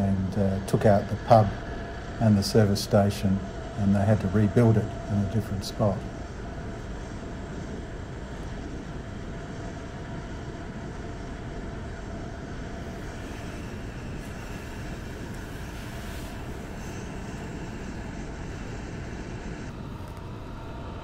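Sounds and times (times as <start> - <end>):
motorcycle engine drone: 0.0 - 20.9.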